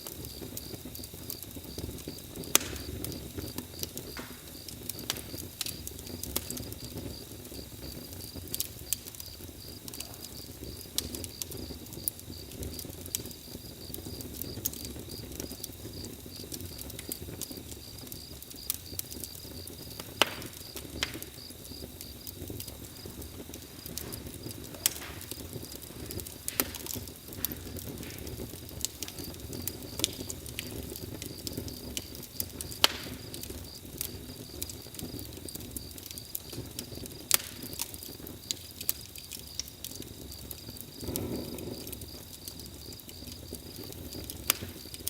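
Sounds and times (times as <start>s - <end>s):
campfire crackling: 0.0s - 45.0s.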